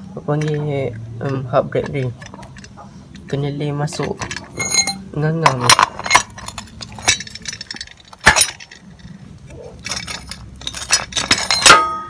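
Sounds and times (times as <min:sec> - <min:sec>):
metal tools clinking: 0:00.3 - 0:12.0.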